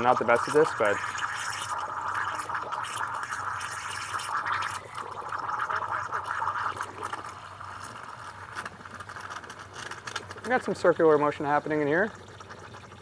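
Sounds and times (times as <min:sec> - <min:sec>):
steam wand frothing milk: 0:00.0 - 0:13.0.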